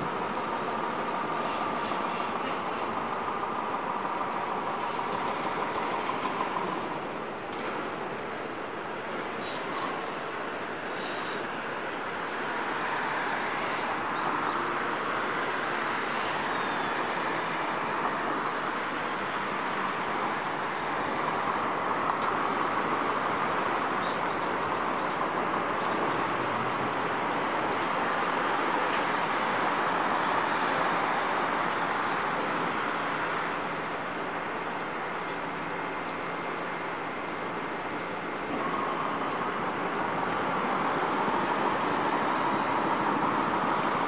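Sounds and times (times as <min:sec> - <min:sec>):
city road traffic hum: 0:00.0 - 0:44.0.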